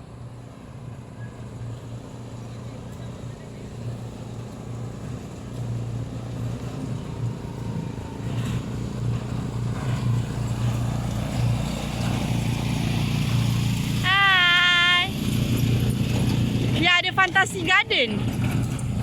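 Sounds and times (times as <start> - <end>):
train engine droning: 0.0 - 19.0.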